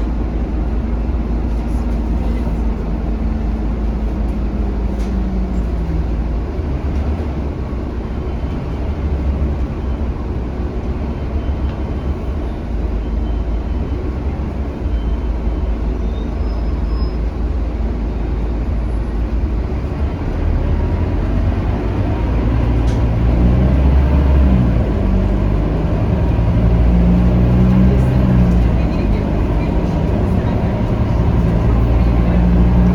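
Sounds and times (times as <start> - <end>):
bus diesel engine: 0.0 - 32.9
road noise: 0.0 - 32.9.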